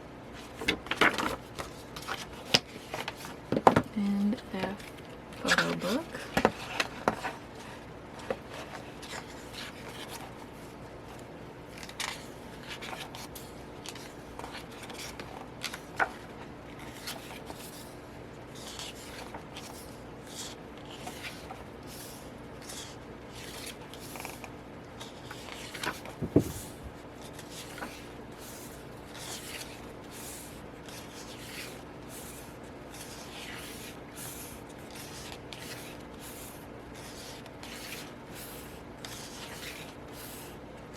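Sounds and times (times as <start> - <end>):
pages turning and rustling: 0.3 - 3.8, 4.7 - 40.9.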